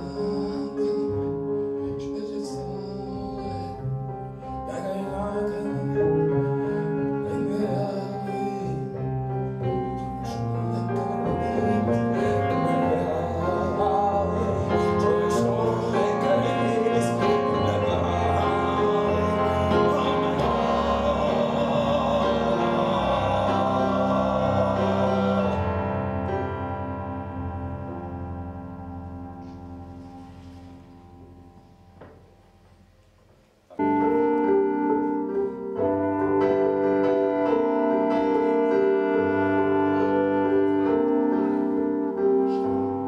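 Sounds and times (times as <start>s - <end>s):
background music: 0.0s - 33.0s, 33.7s - 43.0s.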